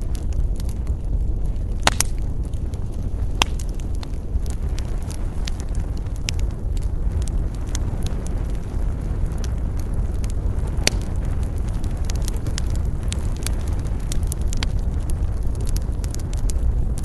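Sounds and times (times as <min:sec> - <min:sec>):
fire flames rumbling: 0:00.0 - 0:17.0
logs crackling and popping: 0:00.0 - 0:17.0.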